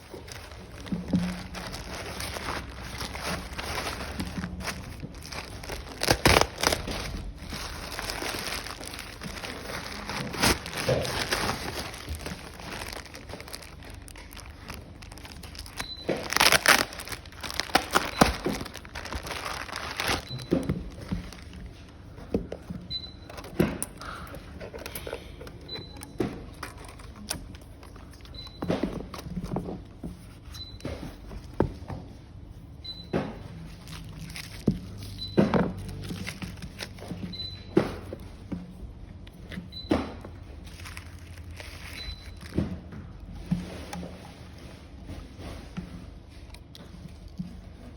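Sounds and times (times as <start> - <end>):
packaging crinkling and rustling: 0.0 - 23.6, 24.4 - 31.8, 33.6 - 38.2, 39.1 - 45.1
handling noises: 0.0 - 47.9.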